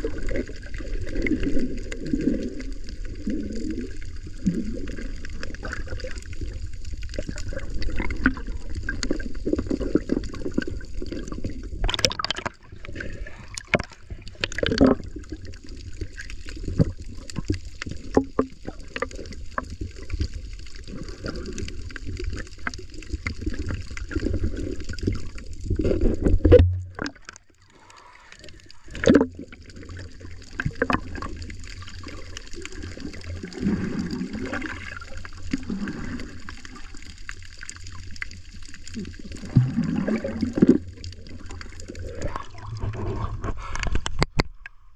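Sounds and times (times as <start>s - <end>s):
water sloshing and gurgling: 0.0s - 44.9s.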